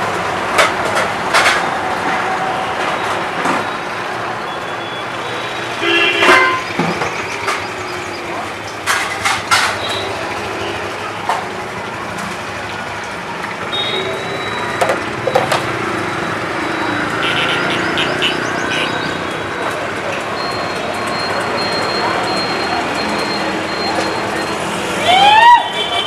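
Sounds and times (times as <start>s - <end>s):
street traffic: 0.0s - 26.0s
voices: 0.9s - 26.0s.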